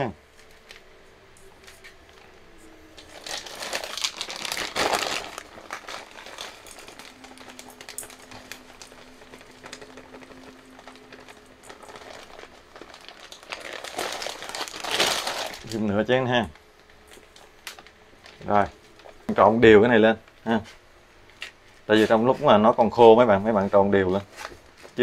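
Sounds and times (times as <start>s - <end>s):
plastic bags crinkling: 0.0s - 20.5s.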